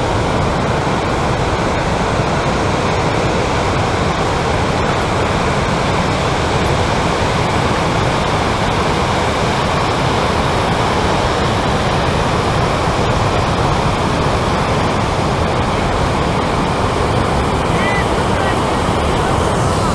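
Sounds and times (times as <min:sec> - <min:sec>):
surf rushing: 0:00.0 - 0:19.9.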